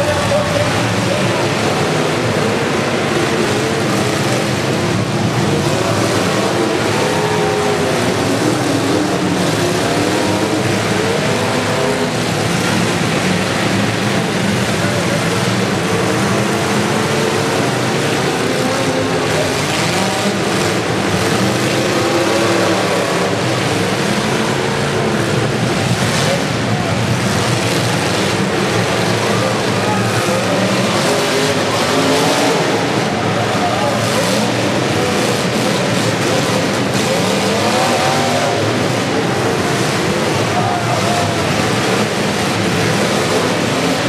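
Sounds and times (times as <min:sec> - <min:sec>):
car engines revving together: 0:00.0 - 0:44.0.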